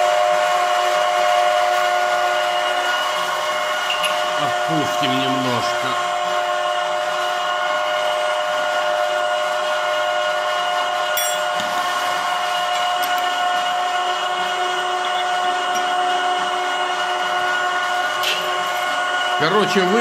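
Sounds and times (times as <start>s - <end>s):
oil press machine humming: 0.0s - 20.0s.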